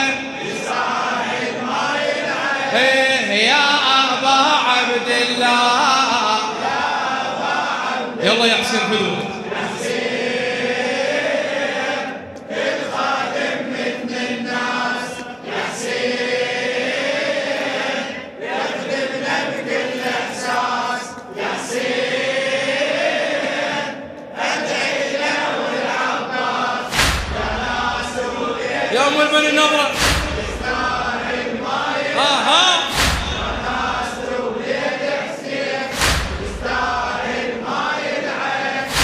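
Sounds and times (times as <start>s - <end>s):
men chanting together: 0.0s - 39.0s.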